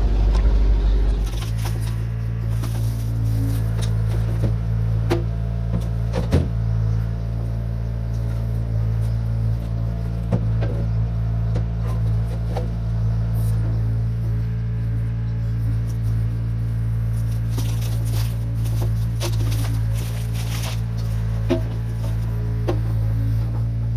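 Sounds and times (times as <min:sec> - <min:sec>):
truck engine droning: 0:00.0 - 0:23.9.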